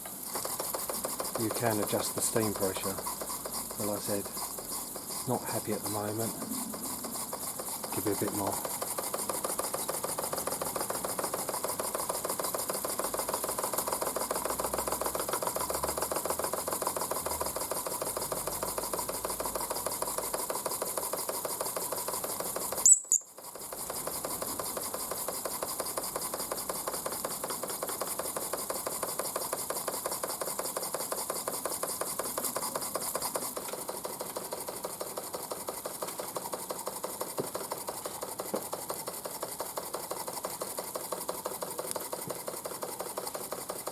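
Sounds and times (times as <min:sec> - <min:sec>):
model steam engine chuffing: 0:00.0 - 0:43.9.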